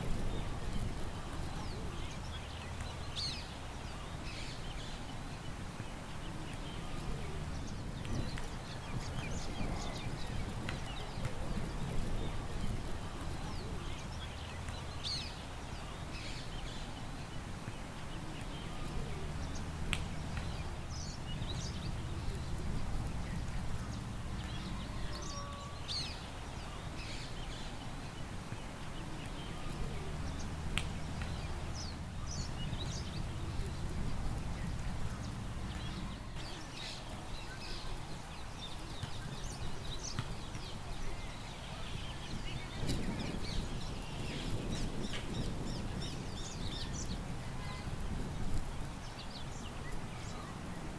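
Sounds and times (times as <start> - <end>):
low rumble of wind: 0.0 - 50.9
small birds chirping: 0.0 - 50.9.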